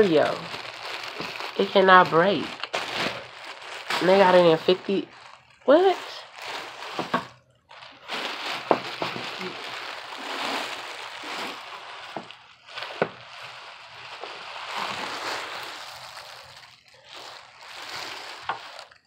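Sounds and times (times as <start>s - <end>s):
plastic wrapping rustling: 0.0s - 19.0s.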